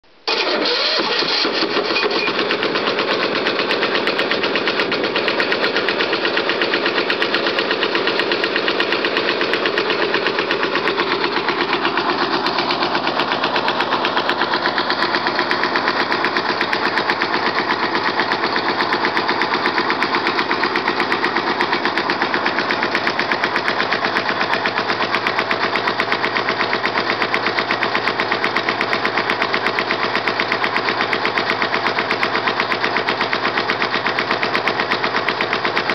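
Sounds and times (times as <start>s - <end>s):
diesel engine running: 0.3s - 35.9s.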